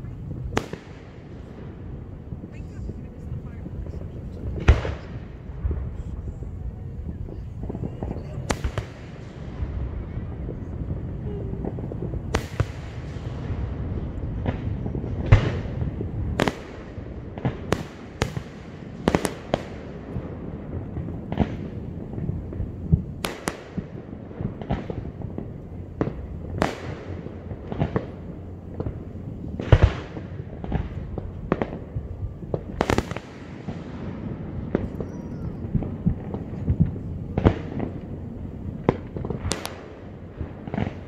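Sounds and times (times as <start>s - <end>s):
low rumble and echo: 0.0s - 41.0s.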